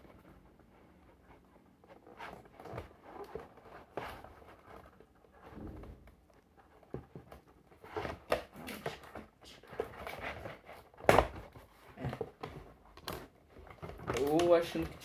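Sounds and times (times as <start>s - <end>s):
cardboard rustling and scraping: 0.0s - 15.0s.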